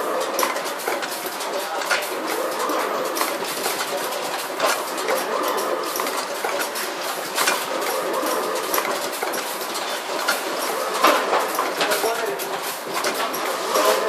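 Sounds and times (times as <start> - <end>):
machine clattering: 0.0 - 14.0.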